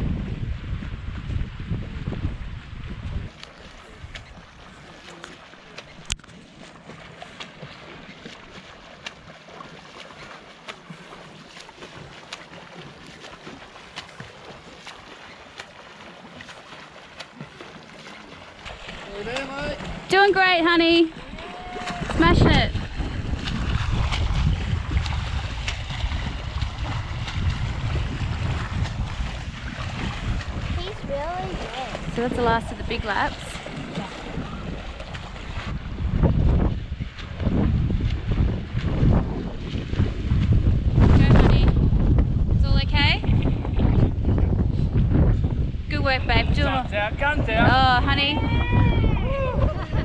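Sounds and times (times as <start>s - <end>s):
wind buffeting microphone: 0.0s - 9.4s, 18.3s - 50.0s
water lapping: 0.0s - 50.0s
paddle splashes: 0.5s - 50.0s.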